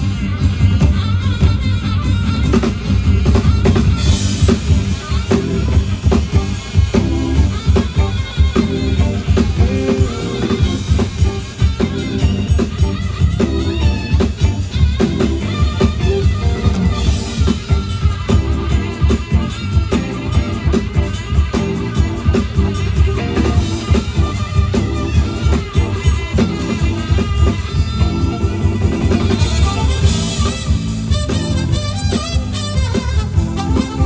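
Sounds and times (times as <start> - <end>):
band music with drum kit: 0.0 - 34.0.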